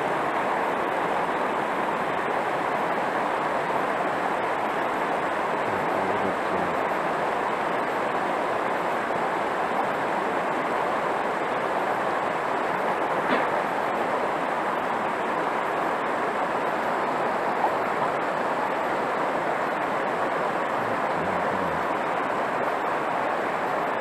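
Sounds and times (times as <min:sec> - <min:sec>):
river water rushing over rapids: 0:00.0 - 0:24.0.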